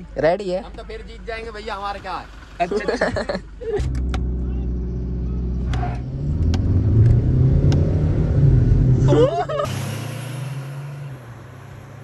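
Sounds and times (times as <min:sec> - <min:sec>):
car engines revving hard: 0:01.8 - 0:12.0.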